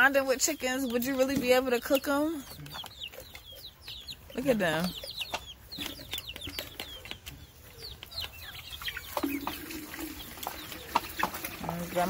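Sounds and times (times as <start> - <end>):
chickens clucking and chirping: 0.0 - 12.0.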